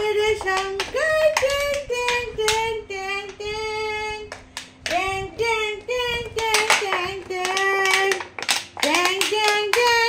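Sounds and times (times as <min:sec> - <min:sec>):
woman singing wordless tune: 0:00.0 - 0:04.3, 0:04.9 - 0:08.2, 0:08.8 - 0:10.0.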